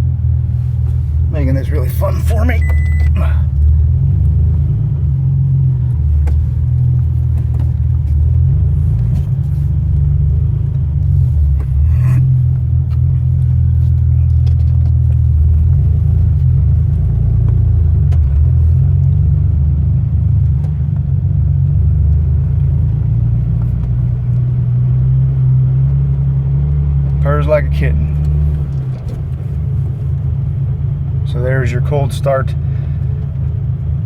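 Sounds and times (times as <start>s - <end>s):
truck engine low rumble: 0.0s - 34.0s.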